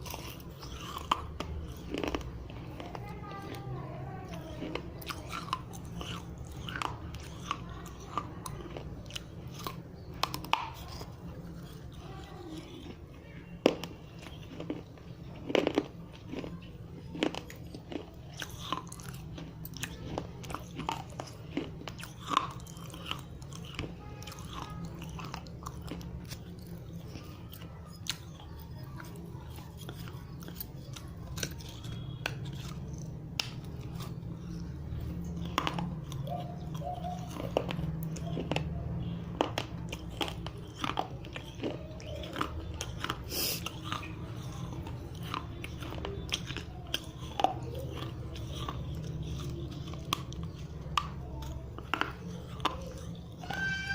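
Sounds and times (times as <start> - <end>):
chewing: 0.0 - 53.9
clay crunching between teeth: 0.0 - 53.9.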